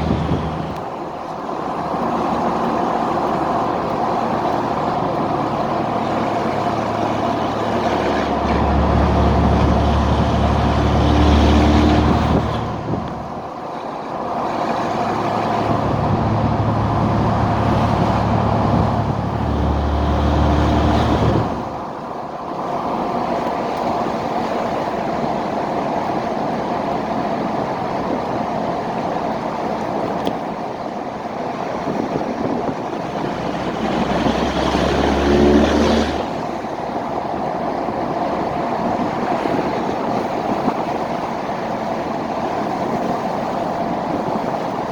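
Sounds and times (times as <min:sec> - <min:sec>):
diesel truck exhaust drone: 0:00.0 - 0:44.9.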